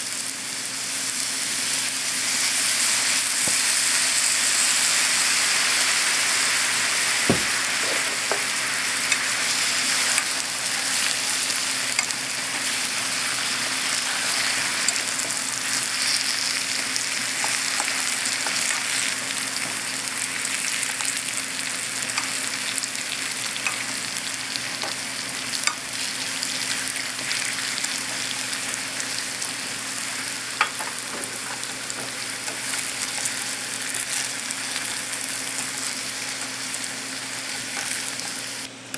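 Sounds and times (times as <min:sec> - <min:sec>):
sweet potato sizzling in frying pan: 0:00.0 - 0:38.7.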